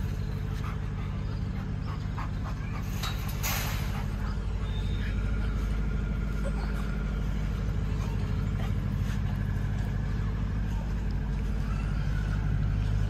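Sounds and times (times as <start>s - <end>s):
motor droning: 0.0s - 13.0s.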